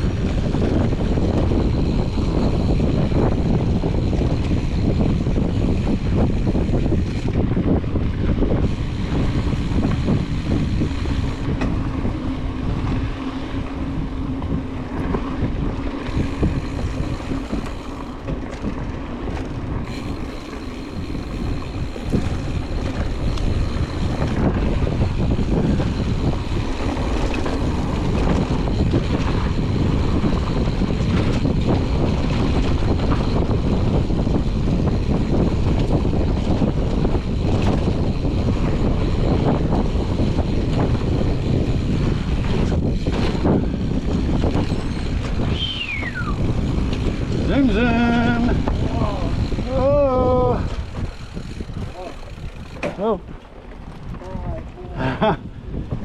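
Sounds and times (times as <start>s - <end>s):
bike rattling and knocking: 0.0s - 56.0s
bike tyres rumbling on dirt: 0.0s - 56.0s
wind rushing over microphone: 0.0s - 56.0s.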